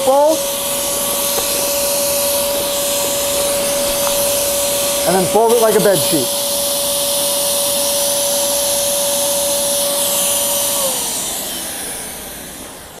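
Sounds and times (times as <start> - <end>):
electric air pump whining: 0.0 - 13.0.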